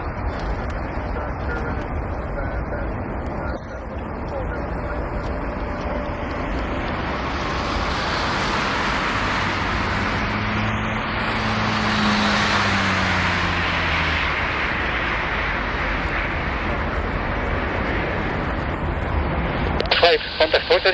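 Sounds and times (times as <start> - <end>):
jet engine roar: 0.0 - 20.9.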